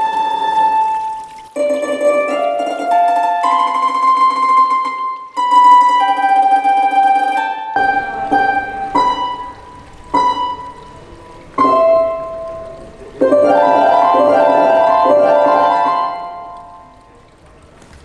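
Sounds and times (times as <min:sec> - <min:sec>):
plucked harp-like strings: 0:00.0 - 0:17.6.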